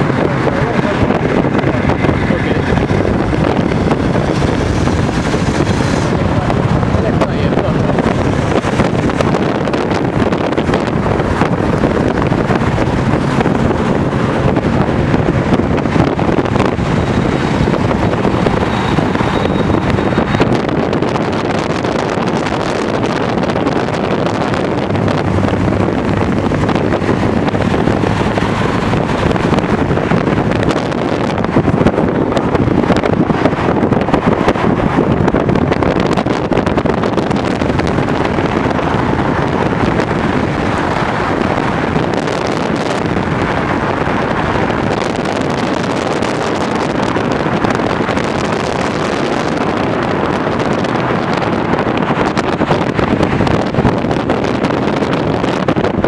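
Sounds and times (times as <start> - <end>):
car road noise: 0.0 - 56.0
wind buffeting microphone: 0.0 - 56.0
wind rush: 0.0 - 56.0.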